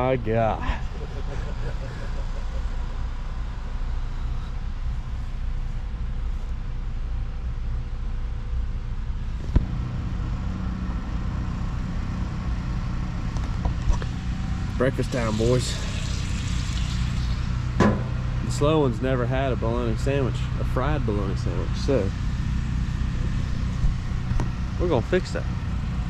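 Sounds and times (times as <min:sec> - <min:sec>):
engine rumbling: 0:00.0 - 0:26.0.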